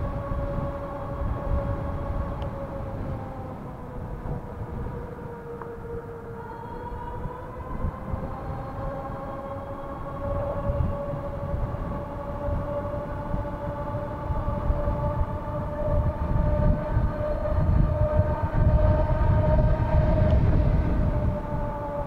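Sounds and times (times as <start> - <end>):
electric bike motor whine: 0.0 - 22.0
wind rumble: 0.0 - 22.0.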